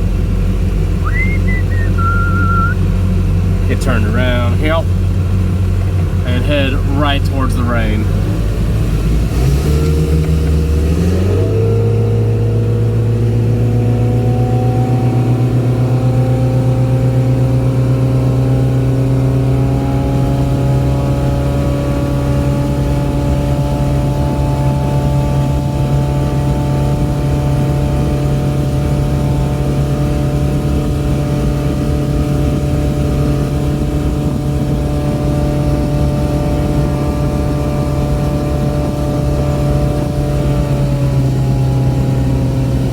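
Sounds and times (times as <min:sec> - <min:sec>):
boat engine at high revs: 0:00.0 - 0:42.9.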